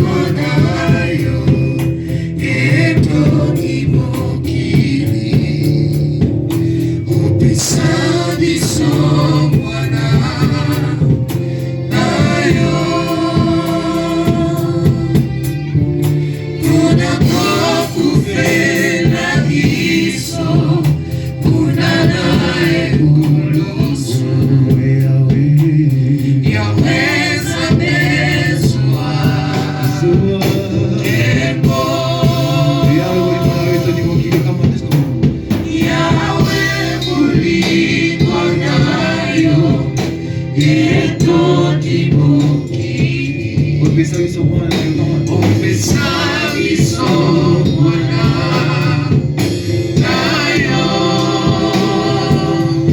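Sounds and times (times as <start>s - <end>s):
choir singing gospel song: 0.0s - 52.9s
low instrumental notes: 0.0s - 52.9s.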